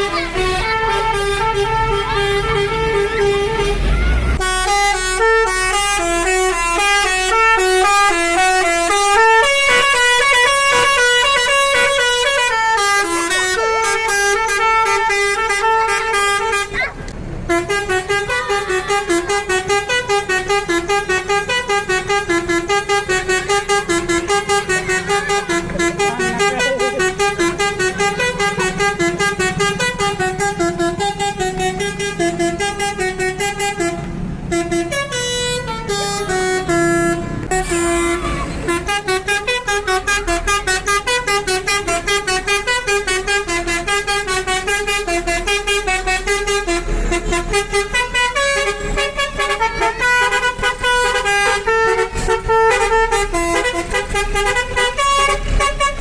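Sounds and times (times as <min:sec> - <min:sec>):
bus horn playing a tune: 0:00.0 - 0:56.0.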